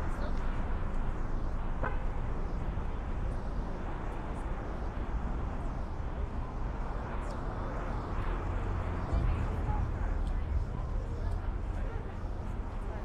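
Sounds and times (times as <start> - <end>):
traffic noise rumble: 0.0 - 13.0.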